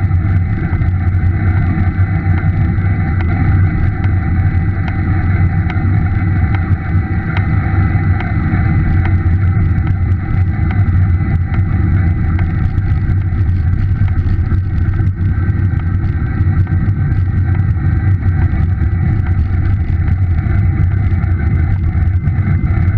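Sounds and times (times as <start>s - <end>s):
electric bike motor humming: 0.0s - 22.9s
motor tapping: 0.0s - 22.9s.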